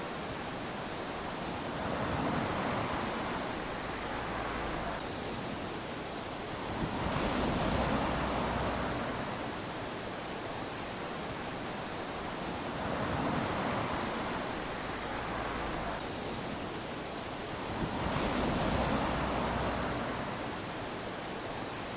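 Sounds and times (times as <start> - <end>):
waves lapping on sandy shore: 0.0 - 21.9.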